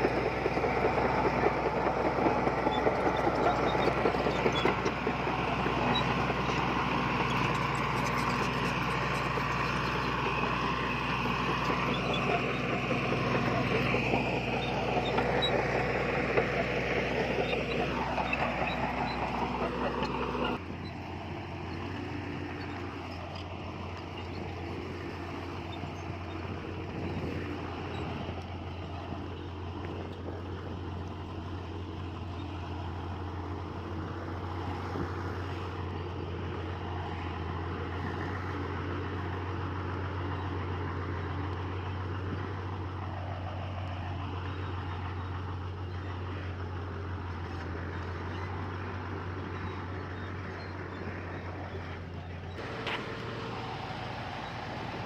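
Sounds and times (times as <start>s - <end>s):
heavy machinery diesel engine drone: 0.0s - 55.0s.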